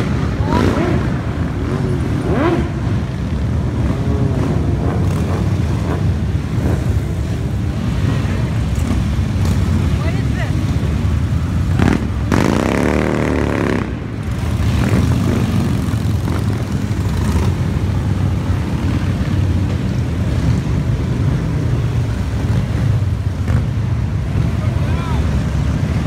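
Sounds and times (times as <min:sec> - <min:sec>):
motorcycle revving: 0:00.0 - 0:26.0
motorcycles riding past: 0:00.0 - 0:26.0.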